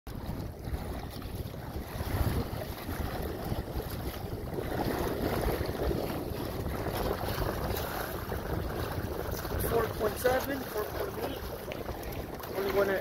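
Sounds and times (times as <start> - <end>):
water splashing against kayak hull: 0.1 - 13.0
wind buffeting microphone: 0.1 - 13.0.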